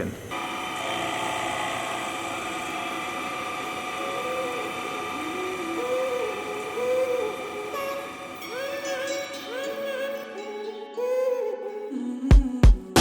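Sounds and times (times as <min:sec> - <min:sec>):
milling machine whining: 0:00.0 - 0:10.7.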